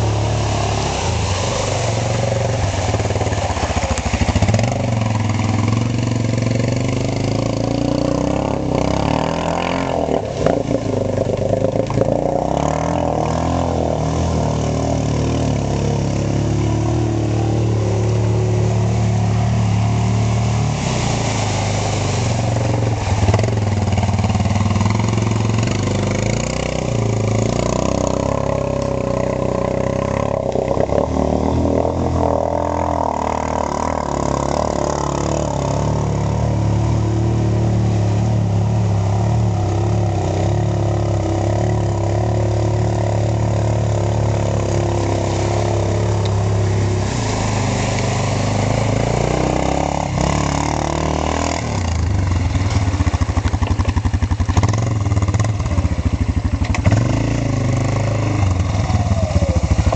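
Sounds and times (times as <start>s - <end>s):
atv engine revving: 0.0s - 59.9s
water splashing and churning: 0.0s - 59.9s.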